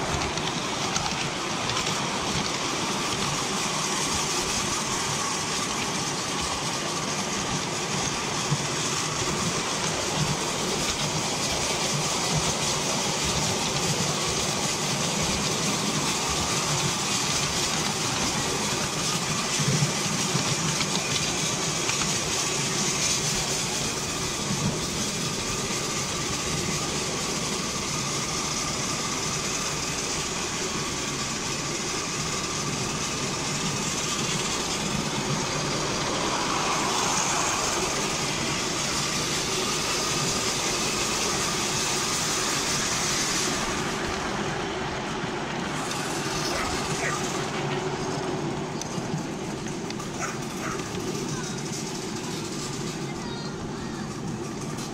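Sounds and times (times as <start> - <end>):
miniature steam train running: 0.0 - 54.9.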